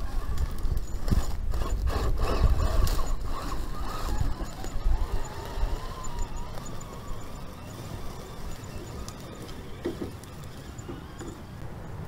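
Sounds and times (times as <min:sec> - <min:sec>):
electric drive whining: 0:00.0 - 0:12.0
tires knocking and scraping on rock: 0:00.0 - 0:12.0.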